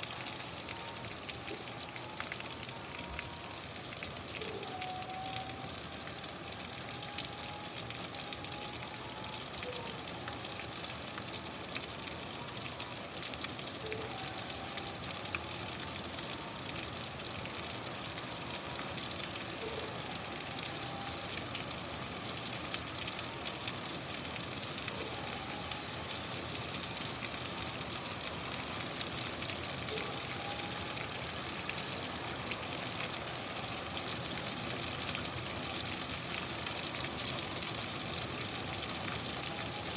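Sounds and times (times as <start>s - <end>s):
rain crackling patter: 0.0s - 39.9s.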